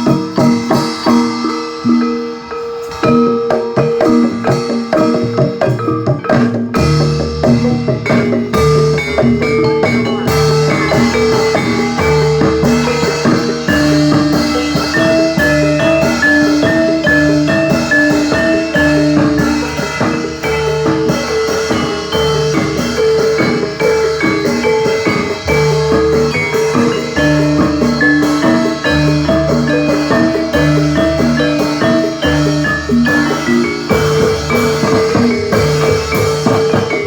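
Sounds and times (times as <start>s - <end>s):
drumming: 0.0s - 37.0s
metal mallet instruments melody: 0.0s - 37.0s.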